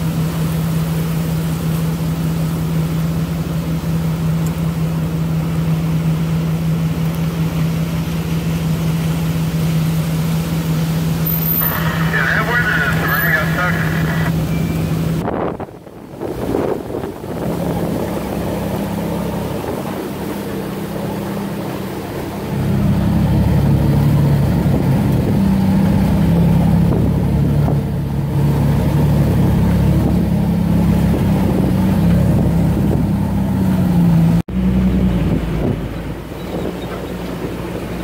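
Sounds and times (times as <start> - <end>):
vehicle engine droning: 0.0 - 38.0.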